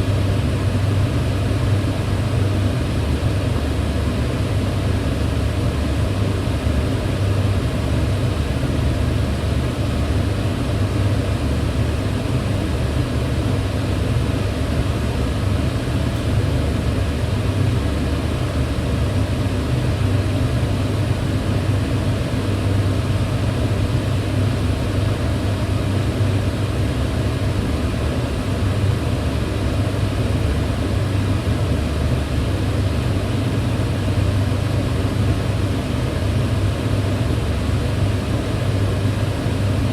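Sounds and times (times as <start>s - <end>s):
range hood fan humming: 0.0s - 39.9s.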